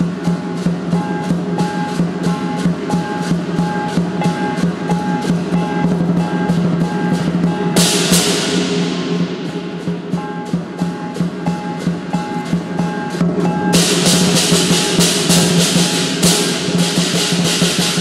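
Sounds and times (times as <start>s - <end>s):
large drum beating: 0.0s - 18.0s
metallic cymbal clashes: 0.0s - 18.0s.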